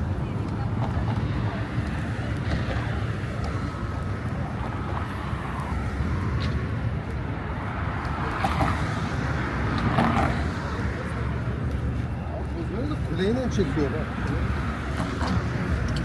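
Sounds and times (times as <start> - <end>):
faint voices: 0.0 - 16.0
low rumble of traffic: 0.0 - 16.0.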